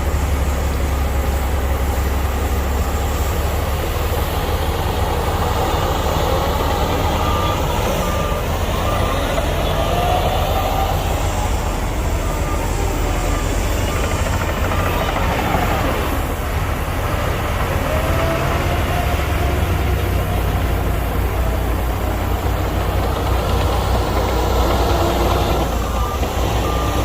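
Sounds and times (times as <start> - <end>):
diesel machinery engine rumble: 0.0 - 27.0.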